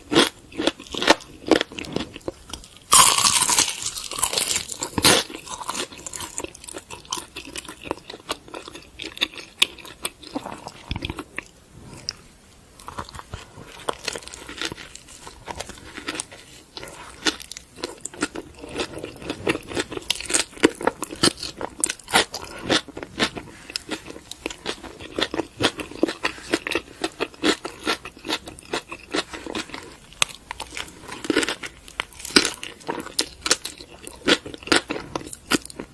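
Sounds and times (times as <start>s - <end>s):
crunchy chewing: 0.0s - 12.2s, 12.8s - 35.9s.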